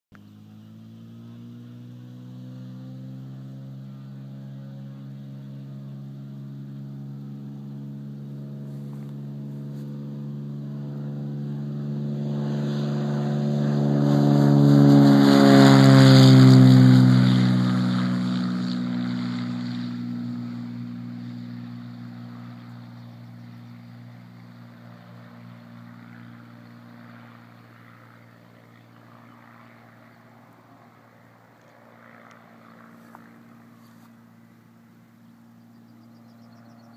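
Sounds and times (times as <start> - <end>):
propeller plane engine: 0.1 - 36.9.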